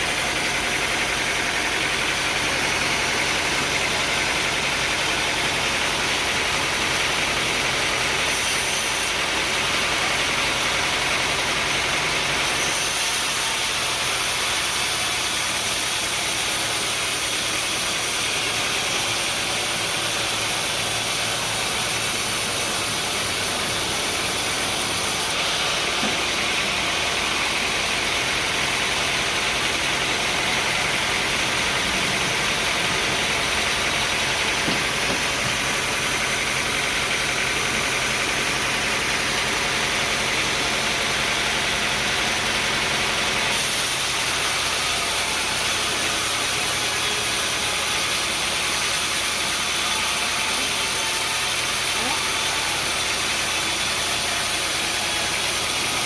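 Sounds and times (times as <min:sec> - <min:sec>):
engine-driven machinery running: 0:00.0 - 0:56.0.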